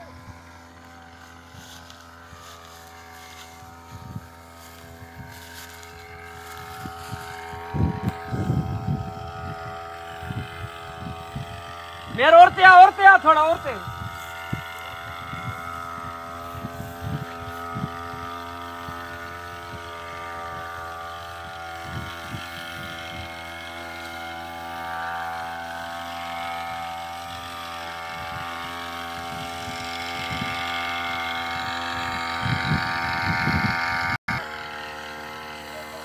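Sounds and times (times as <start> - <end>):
sprayer engine droning: 0.0 - 36.0.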